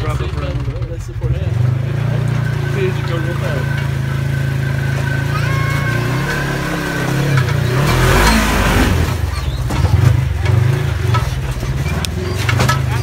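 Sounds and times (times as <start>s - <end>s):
engine revving under load: 0.0s - 13.0s.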